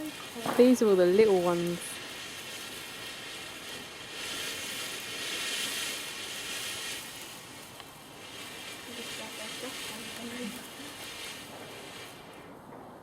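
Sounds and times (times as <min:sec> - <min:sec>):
firework spitting hiss: 0:00.0 - 0:13.0.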